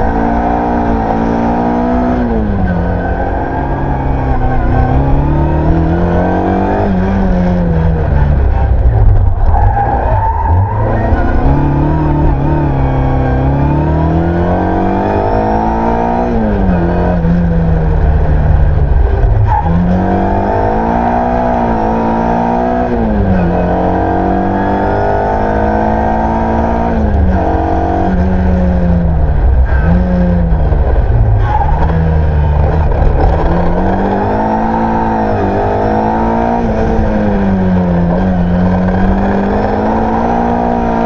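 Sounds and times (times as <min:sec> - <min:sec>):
car engine revving hard: 0:00.0 - 0:41.0
road and cabin rumble: 0:00.0 - 0:41.0.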